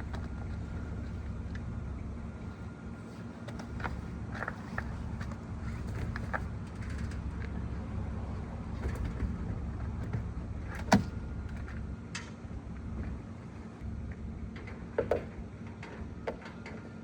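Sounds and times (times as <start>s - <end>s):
low vehicle hum: 0.0s - 17.0s.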